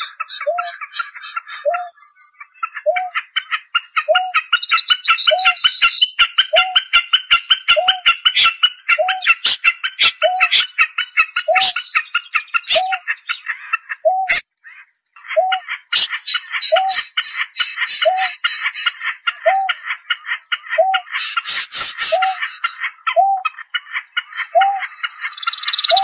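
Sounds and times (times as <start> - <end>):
chipping bird calls: 0.0 - 26.0.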